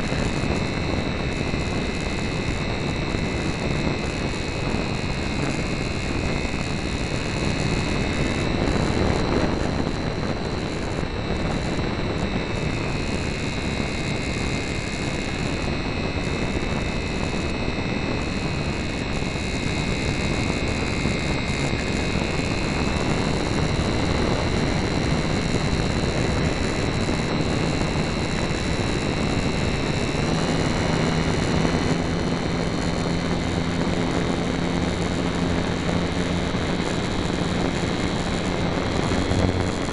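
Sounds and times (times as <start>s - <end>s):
electric motor whine: 0.0s - 39.9s
low steady hum: 0.0s - 39.9s
propeller buzz: 0.0s - 39.9s.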